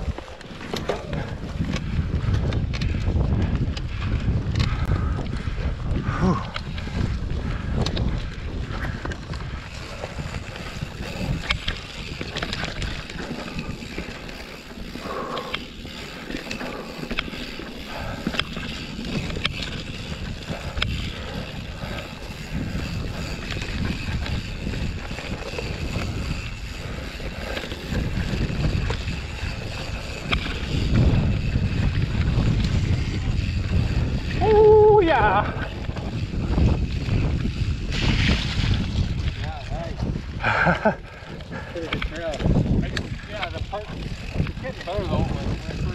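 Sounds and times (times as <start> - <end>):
bike rattling over bumps: 0.0 - 45.9
wind noise on microphone: 0.0 - 45.9.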